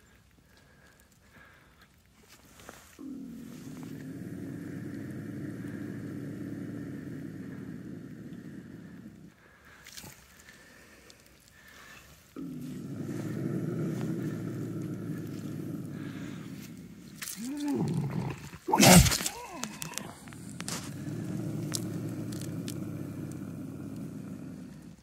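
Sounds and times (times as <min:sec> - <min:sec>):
bobcat growling: 0:03.0 - 0:10.6, 0:11.6 - 0:25.0.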